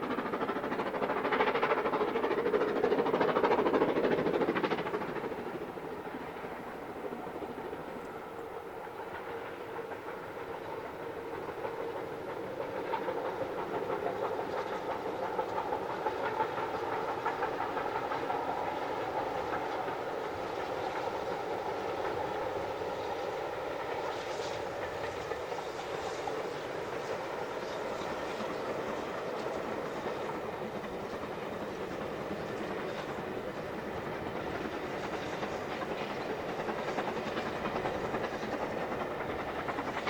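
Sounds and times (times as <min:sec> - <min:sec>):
steam train passing: 0:00.0 - 0:40.0.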